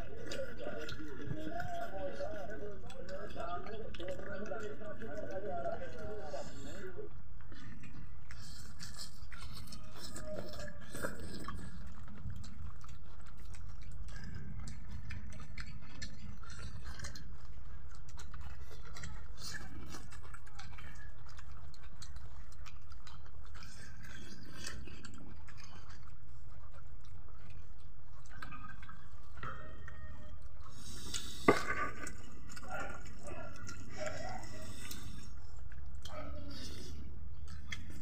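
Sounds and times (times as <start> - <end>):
people chewing: 0.0 - 38.0.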